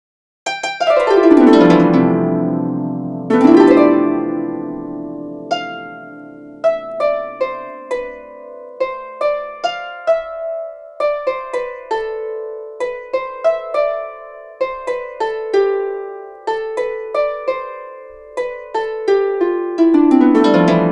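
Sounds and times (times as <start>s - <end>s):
harp music: 0.5s - 20.9s.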